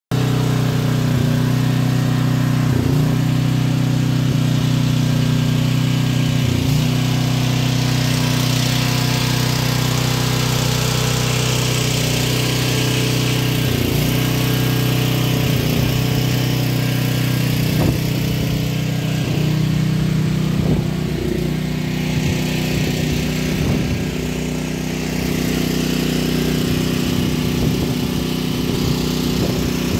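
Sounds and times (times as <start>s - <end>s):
small engine running steadily: 0.1s - 29.9s.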